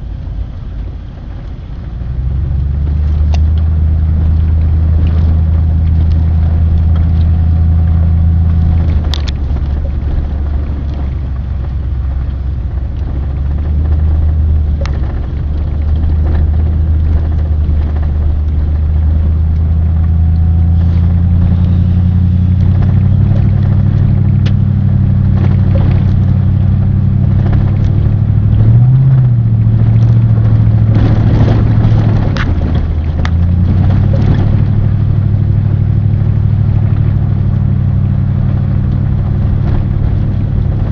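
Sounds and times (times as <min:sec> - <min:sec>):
car engine hum: 0:00.0 - 0:40.9
road noise: 0:00.0 - 0:40.9.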